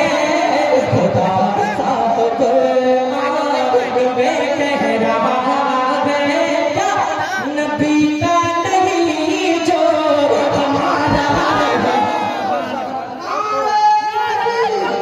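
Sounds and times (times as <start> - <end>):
man singing into a microphone: 0.0 - 12.3.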